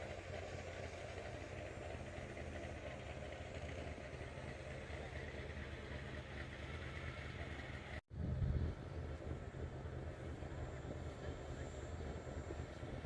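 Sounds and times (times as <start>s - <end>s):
engine idling rumble: 0.0s - 13.0s.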